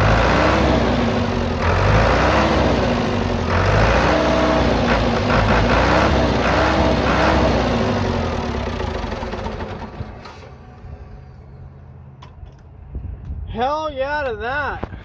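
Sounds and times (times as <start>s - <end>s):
diesel tractor engine running: 0.0s - 13.3s.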